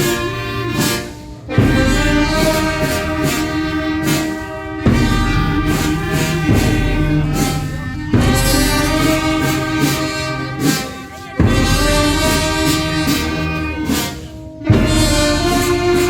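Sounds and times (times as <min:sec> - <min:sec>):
brass band funeral march with drums: 0:00.0 - 0:16.0.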